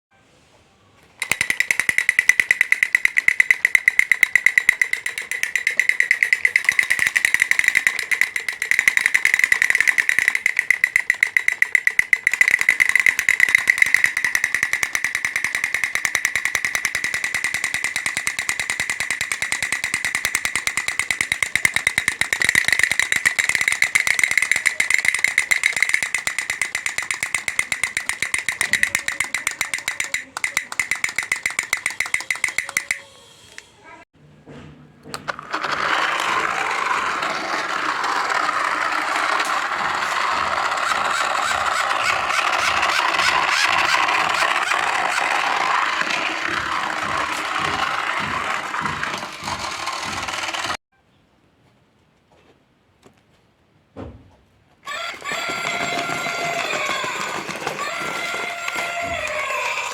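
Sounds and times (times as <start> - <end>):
toy motor clicking and whining: 1.2 - 33.8, 35.2 - 50.8, 54.9 - 59.9.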